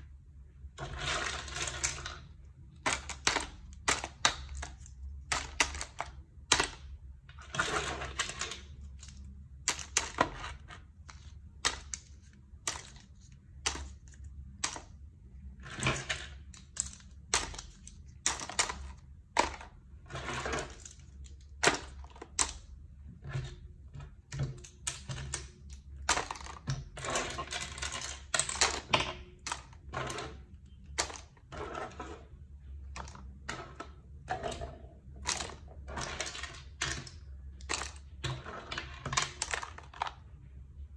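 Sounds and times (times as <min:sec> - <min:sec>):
plastic pieces clattering into tub: 0:00.8 - 0:15.0, 0:15.6 - 0:40.2.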